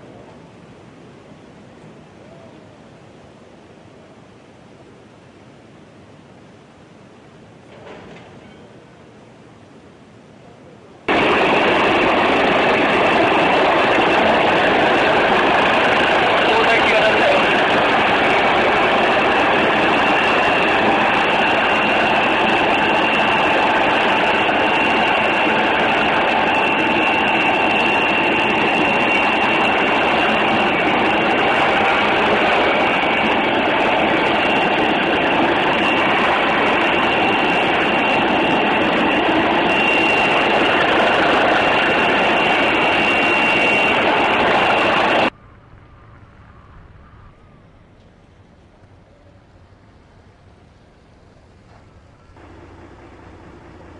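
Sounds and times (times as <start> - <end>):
helicopter drone with high whine: 0.0 - 53.9.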